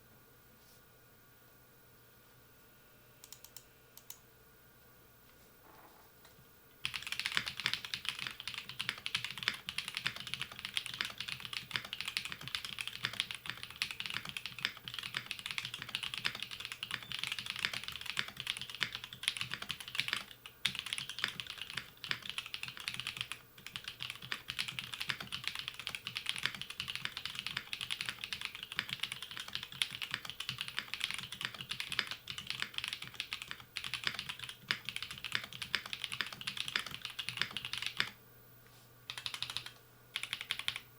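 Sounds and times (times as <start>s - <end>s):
mechanical keyboard typing: 3.2s - 4.2s, 6.8s - 38.2s, 39.1s - 40.9s.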